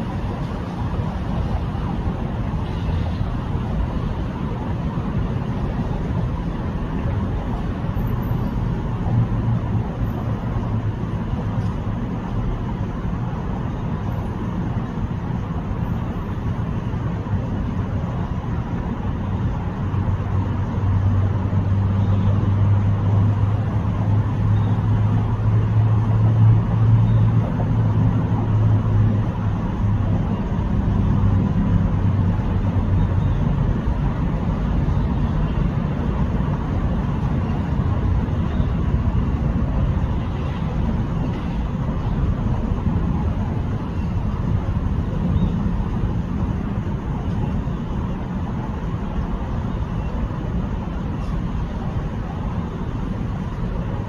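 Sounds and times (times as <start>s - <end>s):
low engine hum: 0.0s - 54.0s
low rumble of motor traffic: 0.0s - 54.0s.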